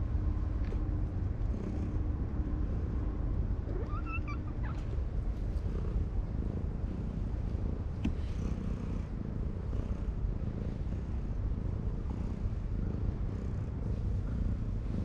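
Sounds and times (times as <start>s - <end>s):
cat purring: 0.3s - 15.0s.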